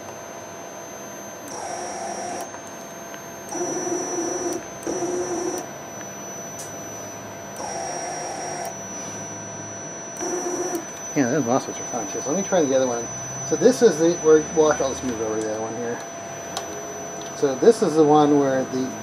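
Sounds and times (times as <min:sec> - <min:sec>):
faint high drive whine: 0:00.0 - 0:19.0
stepper motor whine: 0:00.0 - 0:19.0.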